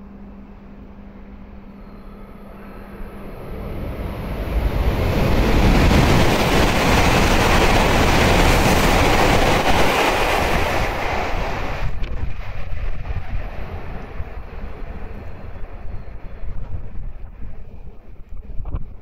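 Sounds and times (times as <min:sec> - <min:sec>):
high-speed train passing: 0:00.0 - 0:19.0
wind buffeting microphone: 0:03.4 - 0:19.0.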